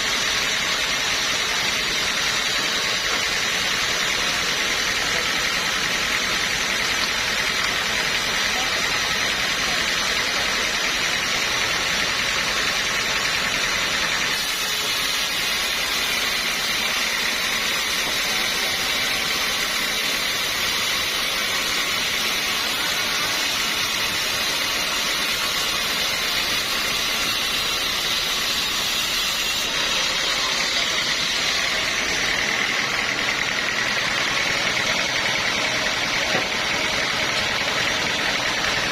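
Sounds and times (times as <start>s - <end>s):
saw machinery whirring: 0.0s - 38.9s.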